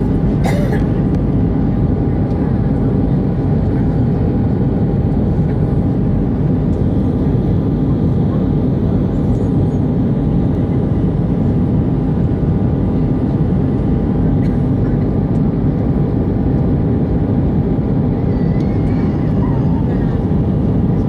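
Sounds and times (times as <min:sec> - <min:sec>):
jet engine noise: 0:00.0 - 0:21.0.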